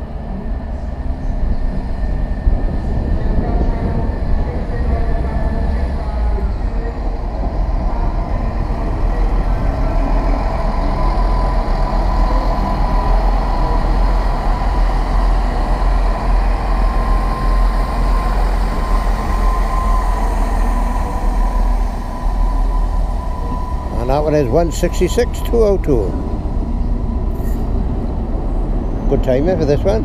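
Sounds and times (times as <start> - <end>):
diesel train engines running: 0.0 - 30.0
thin steady whine: 0.0 - 30.0
train wheels rumbling over rails: 0.0 - 30.0.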